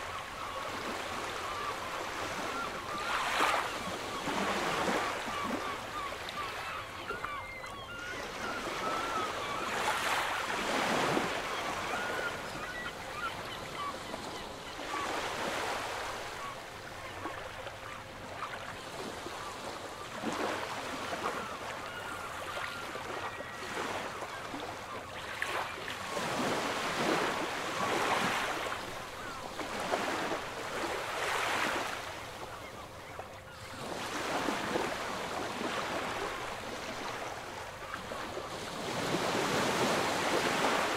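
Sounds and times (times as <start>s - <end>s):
wind: 0.0s - 40.9s.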